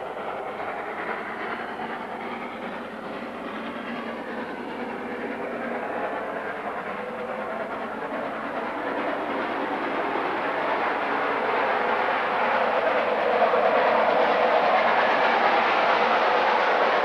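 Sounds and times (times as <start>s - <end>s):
steam train rail running noise: 0.0s - 17.0s.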